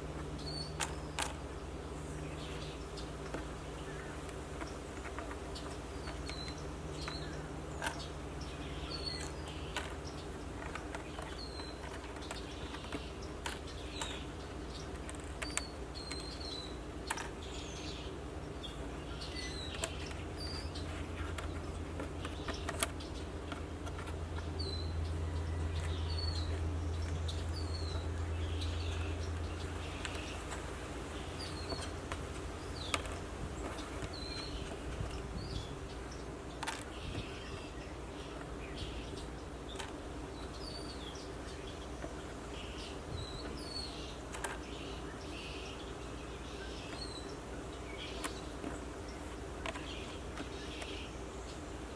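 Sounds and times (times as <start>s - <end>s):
low steady hum: 0.0s - 51.9s
small birds chirping: 0.0s - 51.9s.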